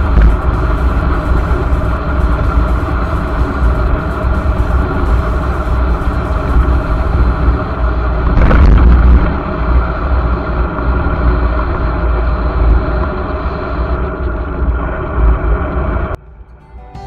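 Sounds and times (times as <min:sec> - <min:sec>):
wind buffeting microphone: 0:00.0 - 0:16.2
road and tyre noise: 0:00.0 - 0:16.3.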